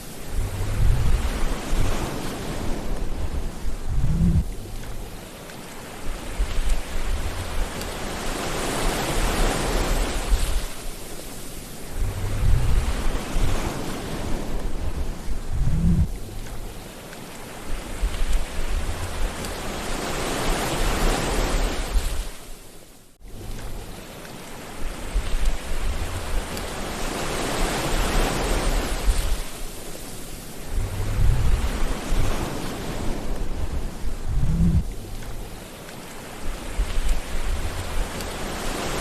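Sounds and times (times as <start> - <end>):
sea waves breaking: 0.0 - 39.0.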